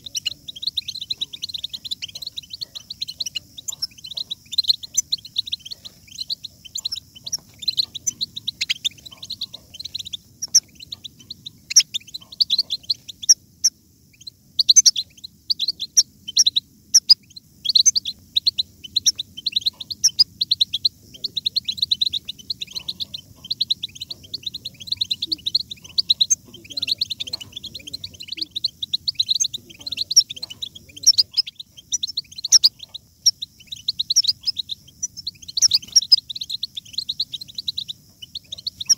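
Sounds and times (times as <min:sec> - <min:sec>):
goldfinches twittering: 0:00.0 - 0:38.9.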